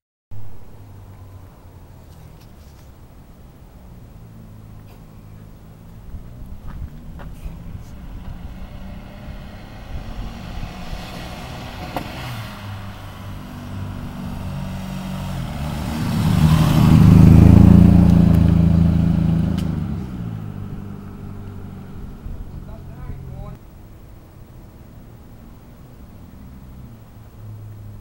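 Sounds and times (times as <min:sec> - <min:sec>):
car engine driving past: 0:00.4 - 0:23.6.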